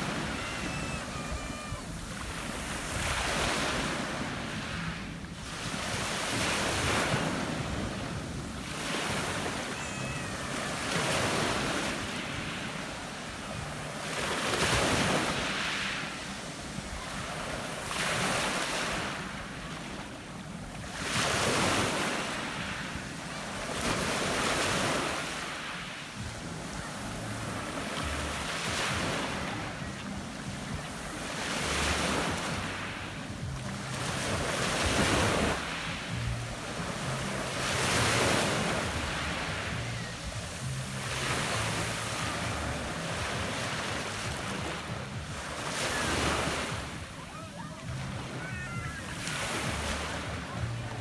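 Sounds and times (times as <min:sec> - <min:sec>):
waves washing up a pebble beach: 0:00.0 - 0:50.8.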